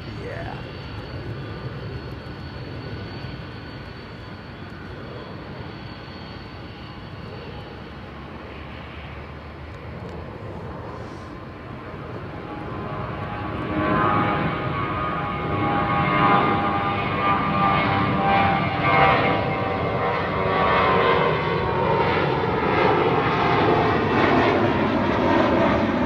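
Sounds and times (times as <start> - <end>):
jet engine whine: 0.0 - 26.0
jet engines rumbling: 0.0 - 26.0.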